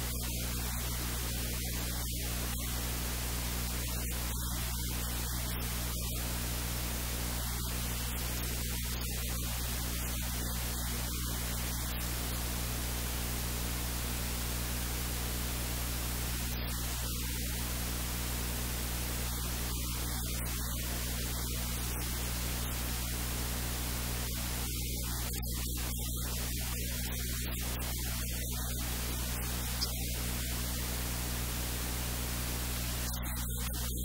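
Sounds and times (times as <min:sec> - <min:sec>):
low electrical hum: 0:00.0 - 0:34.0
static hiss: 0:00.0 - 0:34.0.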